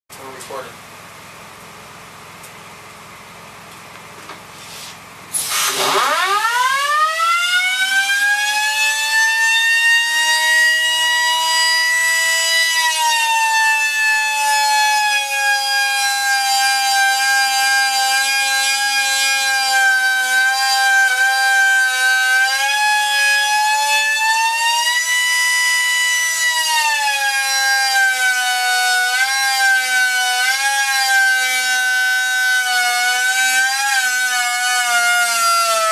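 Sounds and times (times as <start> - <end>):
cutter motor whine: 5.4 - 35.9.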